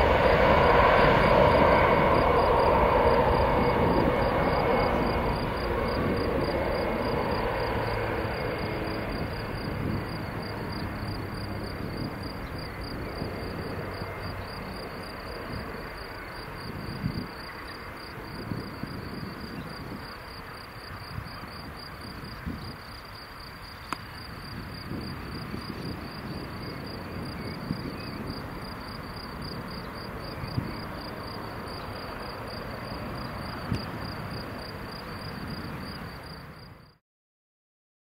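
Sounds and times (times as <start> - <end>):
jet engines at take-off power: 0.0 - 36.9
cricket chirping: 0.0 - 37.0.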